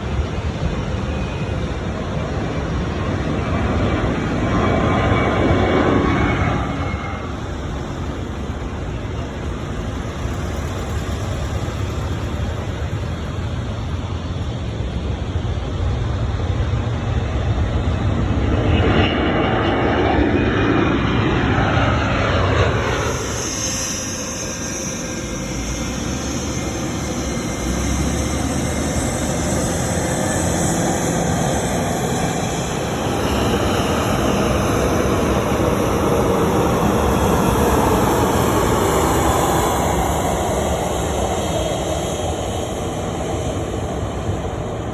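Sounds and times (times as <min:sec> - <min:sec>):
jet airliner passing: 0:00.0 - 0:44.9.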